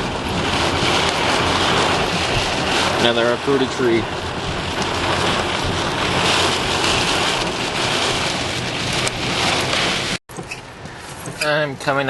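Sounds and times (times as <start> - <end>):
rain and wind rushing: 0.0 - 12.0
vehicle engine and road hum: 0.0 - 12.0.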